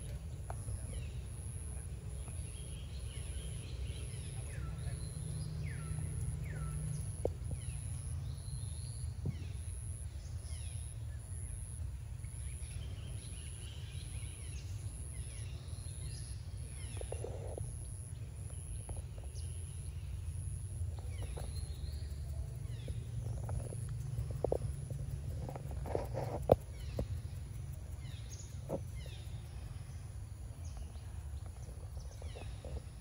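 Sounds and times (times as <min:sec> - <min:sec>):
high pulsing insect buzz: 0:00.0 - 0:33.0
low forest rumble: 0:00.0 - 0:33.0.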